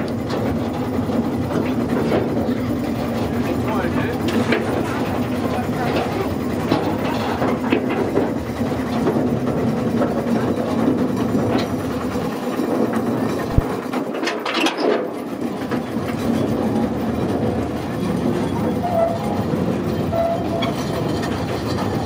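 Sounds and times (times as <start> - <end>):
train clicks and clatters: 0.0 - 22.0
train rumble and hum: 0.0 - 22.0.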